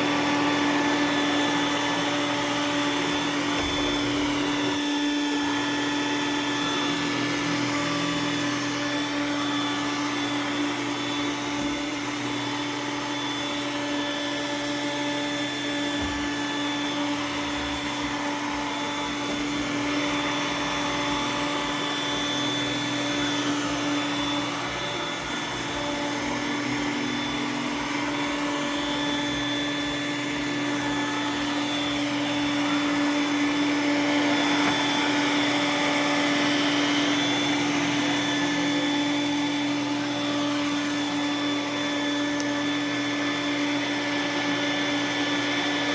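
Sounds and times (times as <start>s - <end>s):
robot vacuum running: 0.0s - 45.9s.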